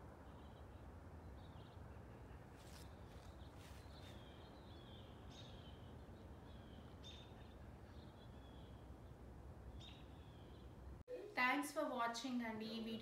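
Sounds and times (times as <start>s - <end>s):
faint birds chirping: 0.0s - 11.3s.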